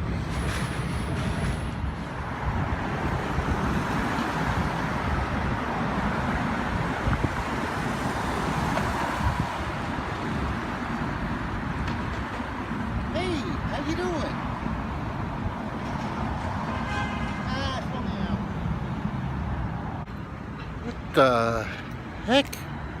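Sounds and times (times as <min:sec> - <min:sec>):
car road and engine noise: 0:00.0 - 0:23.0.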